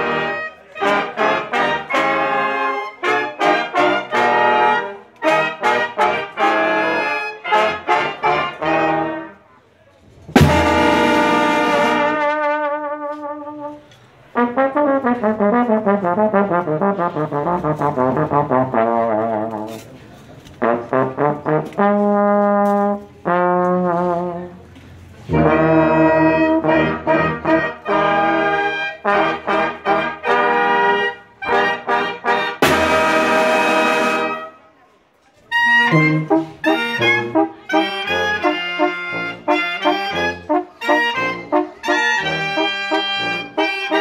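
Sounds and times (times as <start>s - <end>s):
trombones playing together: 0.0s - 9.4s, 10.3s - 34.6s, 35.5s - 44.0s.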